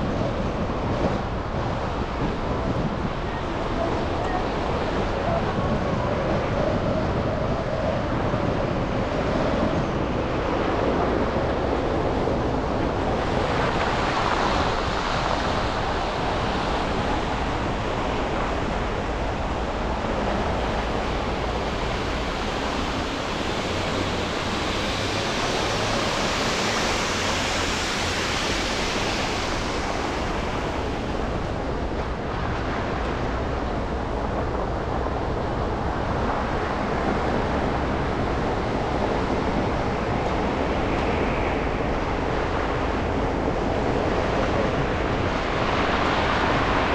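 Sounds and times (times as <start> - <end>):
car road and tyre noise: 0.0 - 46.9.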